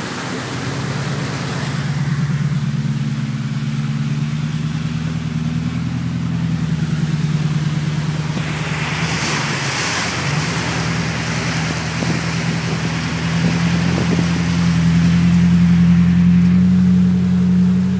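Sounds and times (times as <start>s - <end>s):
truck engine running: 0.0s - 17.9s
water splashing: 0.0s - 17.9s.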